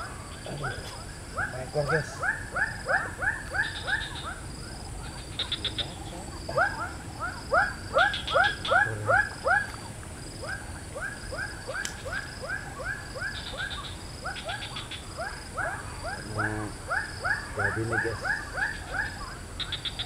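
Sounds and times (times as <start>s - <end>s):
chorus of animal calls: 0.0s - 20.0s.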